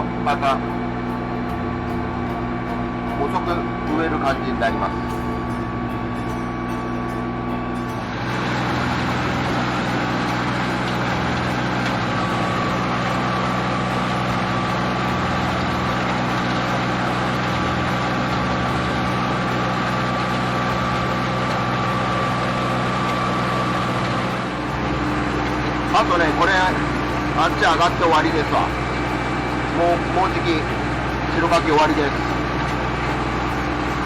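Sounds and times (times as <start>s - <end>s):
thin high whine: 0.0s - 34.0s
tractor diesel engine: 0.0s - 34.0s.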